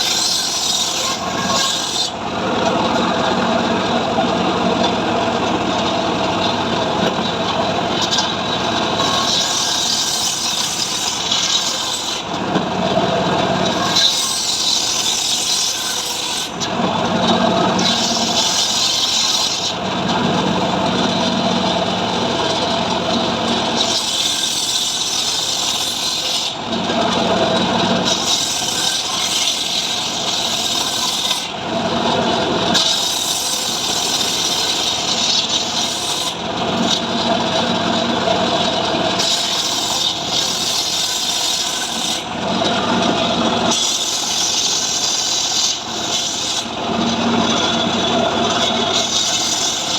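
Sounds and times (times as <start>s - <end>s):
power saw cutting wood: 0.0s - 49.9s.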